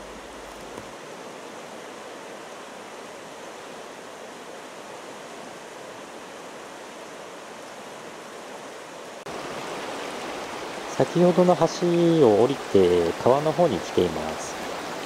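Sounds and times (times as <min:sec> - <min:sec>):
river running over rocks: 0:00.0 - 0:15.0.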